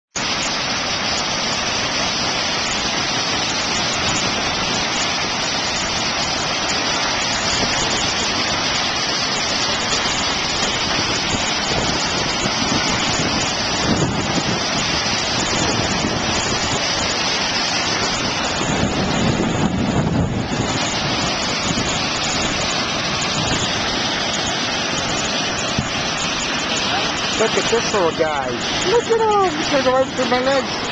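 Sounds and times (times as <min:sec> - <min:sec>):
waterfall pouring: 0:00.2 - 0:30.9.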